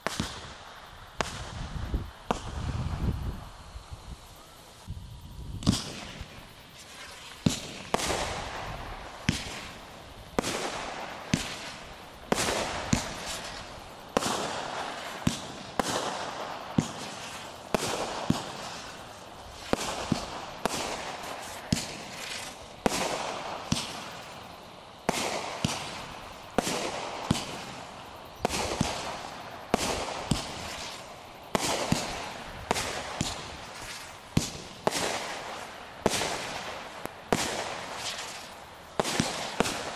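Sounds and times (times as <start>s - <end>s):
fireworks cake firing reports: 0.0s - 39.9s.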